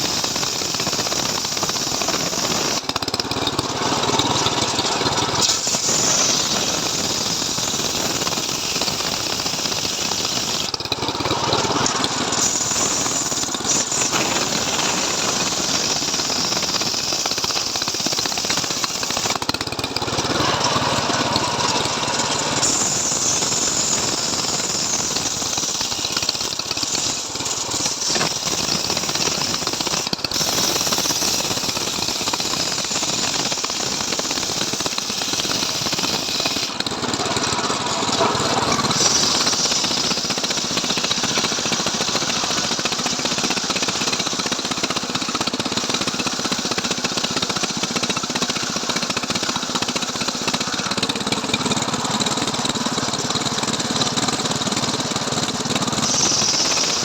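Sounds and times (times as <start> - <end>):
chainsaw cutting through log: 0.0 - 57.0.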